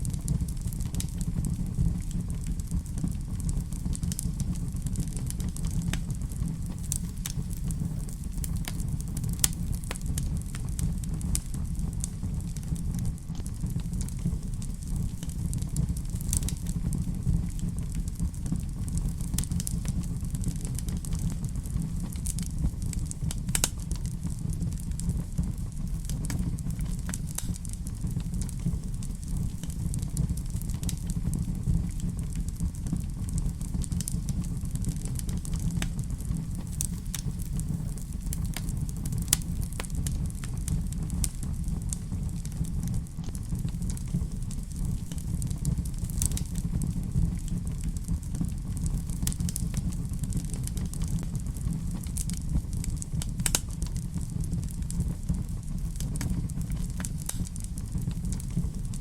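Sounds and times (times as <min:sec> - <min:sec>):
fireplace fire crackling: 0:00.0 - 0:59.0
sharp fire pops and snaps: 0:00.0 - 0:59.0.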